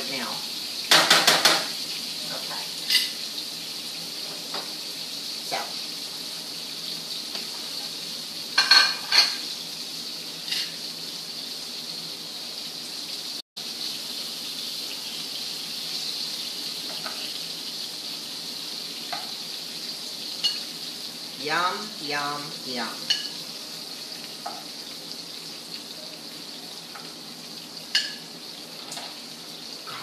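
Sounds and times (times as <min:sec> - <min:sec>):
shrimp sizzling in skillet: 0:00.0 - 0:30.0.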